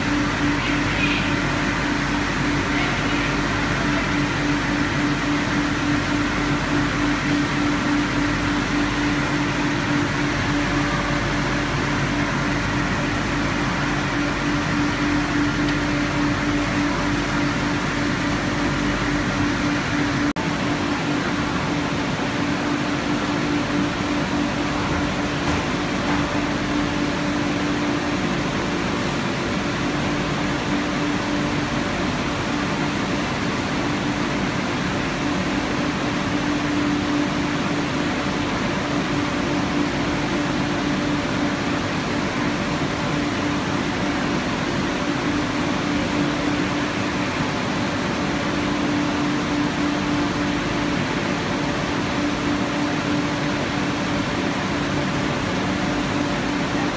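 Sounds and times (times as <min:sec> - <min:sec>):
machine pumps humming: 0:00.0 - 0:56.9.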